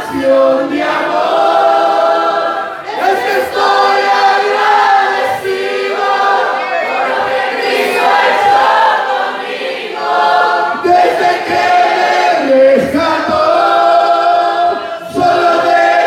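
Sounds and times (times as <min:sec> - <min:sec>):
man and woman singing together: 0:00.0 - 0:16.0.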